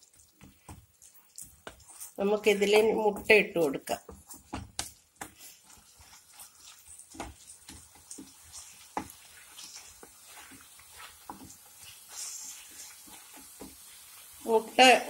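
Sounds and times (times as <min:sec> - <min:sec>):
spatula scraping a pan: 0:00.0 - 0:15.0.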